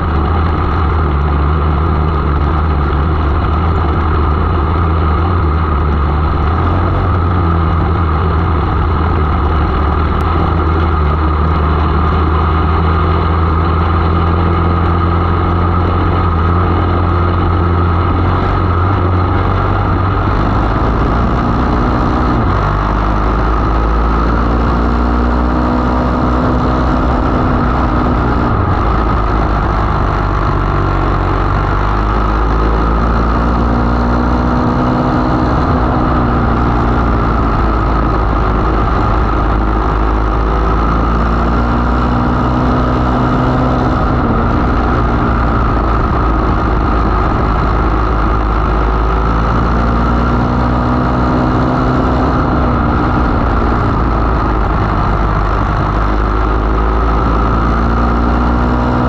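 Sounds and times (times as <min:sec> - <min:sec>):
racing car engine running hard: 0:00.0 - 0:59.0.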